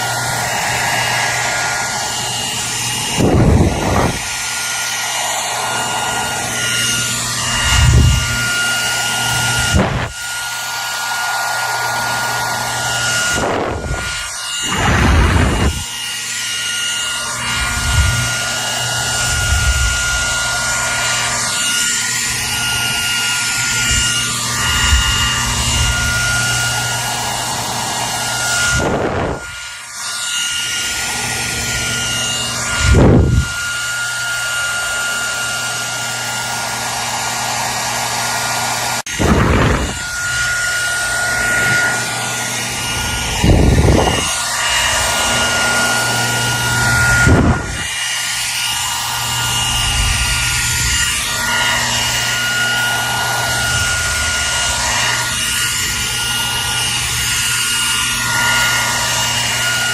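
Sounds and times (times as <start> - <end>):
hair dryer running: 0.0 - 59.9
hair dryer whoosh: 0.0 - 59.9.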